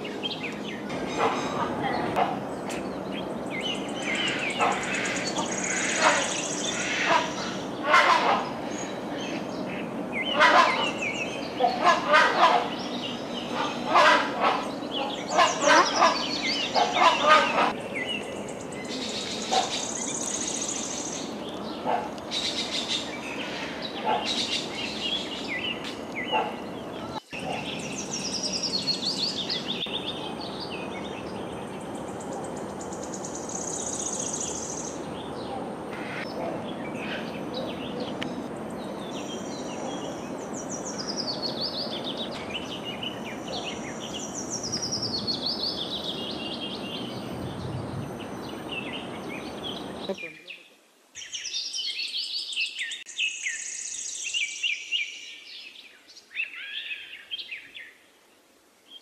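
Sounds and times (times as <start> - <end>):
birds chirping: 0.0 - 58.0
background hiss: 1.9 - 11.9, 12.6 - 59.0.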